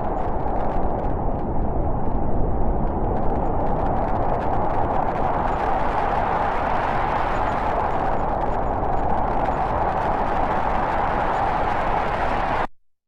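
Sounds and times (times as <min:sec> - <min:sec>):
low rumbling storm rush: 0:00.0 - 0:12.7.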